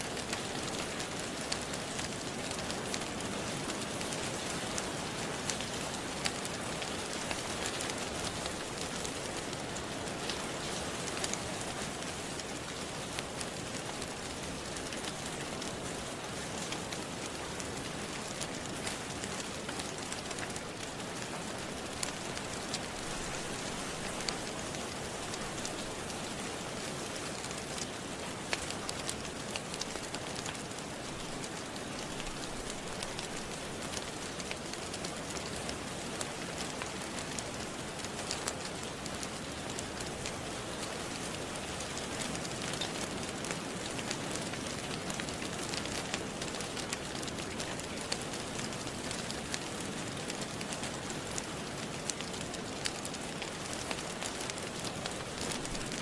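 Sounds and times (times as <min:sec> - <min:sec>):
steady rain: 0:00.0 - 0:56.0
wood fire crackling and popping: 0:00.0 - 0:56.0.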